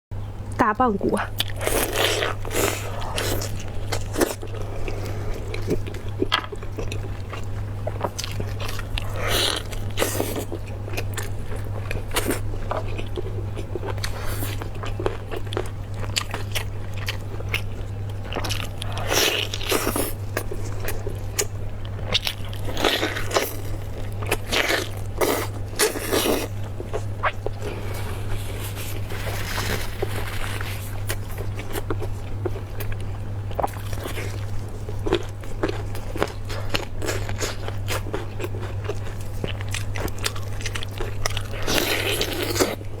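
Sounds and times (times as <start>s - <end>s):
steady low hum: 0.1s - 43.0s
chewing and biting bone marrow: 1.2s - 43.0s.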